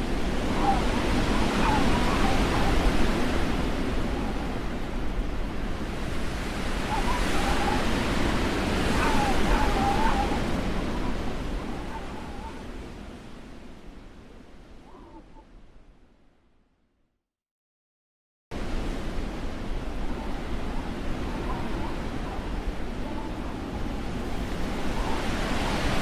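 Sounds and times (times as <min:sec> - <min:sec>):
blizzard wind rushing: 0:00.0 - 0:14.8, 0:18.6 - 0:26.0
thin whistling wind tones: 0:00.0 - 0:16.0, 0:18.6 - 0:26.0.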